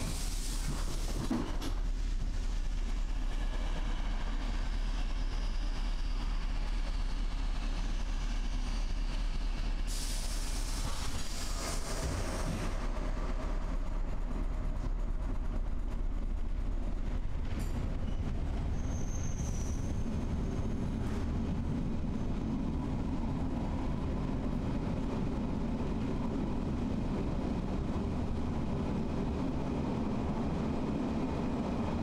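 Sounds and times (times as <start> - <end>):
train rumbling on track: 0.0 - 32.0.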